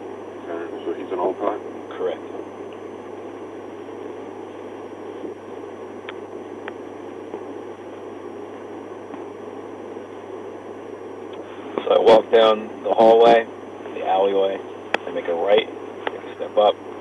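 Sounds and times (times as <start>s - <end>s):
steady hiss with low hum: 0.0s - 17.0s.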